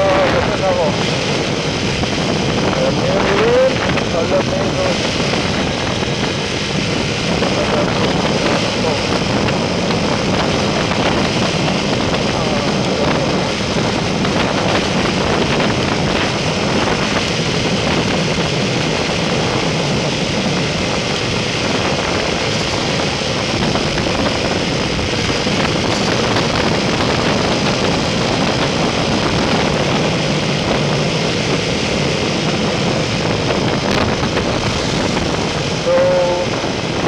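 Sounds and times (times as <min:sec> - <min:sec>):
motorcycle engine drone: 0:00.0 - 0:37.0
wind rushing: 0:00.0 - 0:37.0.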